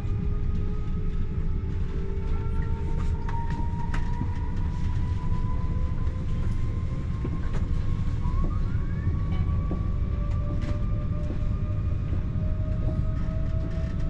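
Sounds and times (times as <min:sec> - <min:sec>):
train rumbling from inside carriage: 0:00.0 - 0:14.0.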